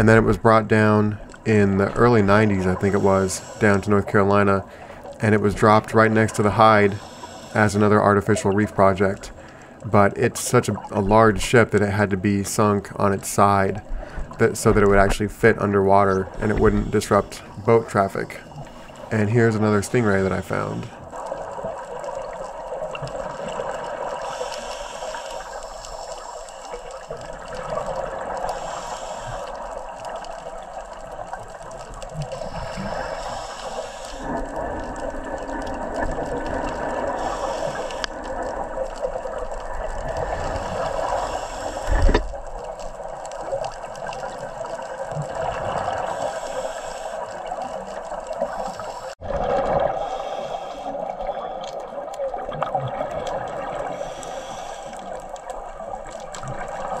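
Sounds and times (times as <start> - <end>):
scuba breathing bubbles underwater: 1.0 - 9.9, 12.6 - 57.0.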